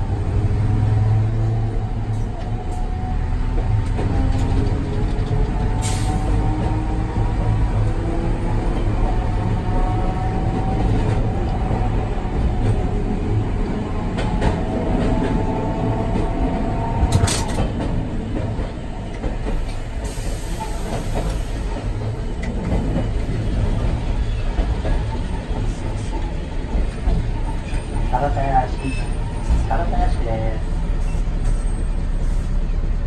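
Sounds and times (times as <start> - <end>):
tram wheels rumbling on rail: 0.0 - 33.0.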